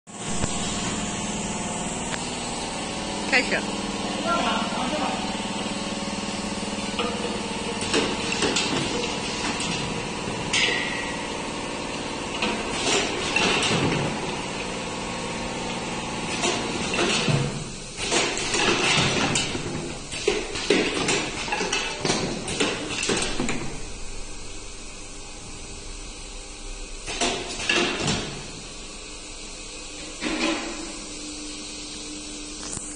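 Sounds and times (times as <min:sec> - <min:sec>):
conveyor motor hum: 0:00.1 - 0:32.9.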